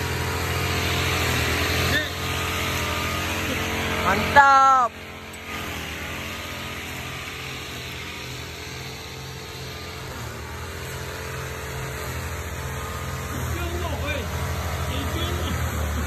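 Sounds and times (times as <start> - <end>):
brush cutter engine idling: 0.0 - 16.0.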